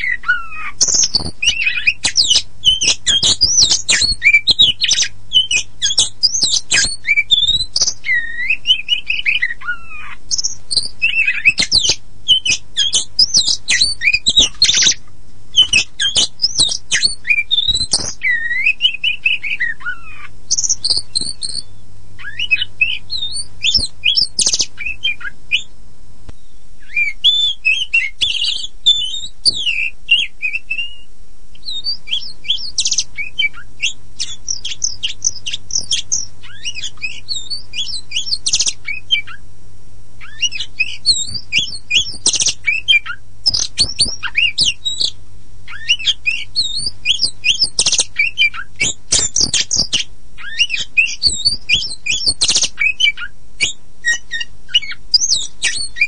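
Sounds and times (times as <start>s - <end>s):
songbird singing whistled phrases: 0.0s - 25.7s, 26.4s - 39.4s, 40.2s - 56.0s.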